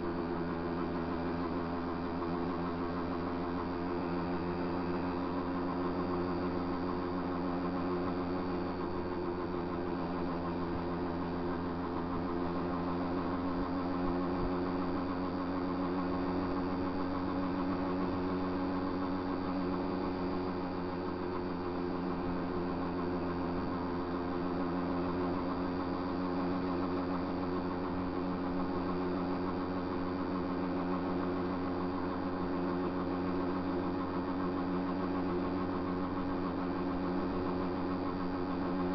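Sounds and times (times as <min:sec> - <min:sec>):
small motorbike engine running: 0:00.0 - 0:38.9.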